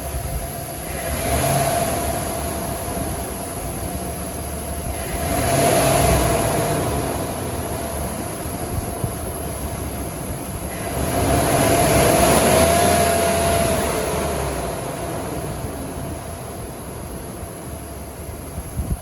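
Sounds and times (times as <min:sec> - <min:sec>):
pickup engine revving: 0:00.0 - 0:18.6.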